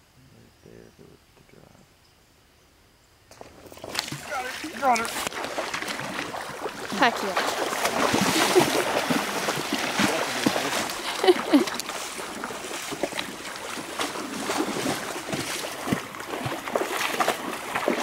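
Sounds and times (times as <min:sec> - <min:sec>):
fish splashing in water: 0:03.4 - 0:18.0.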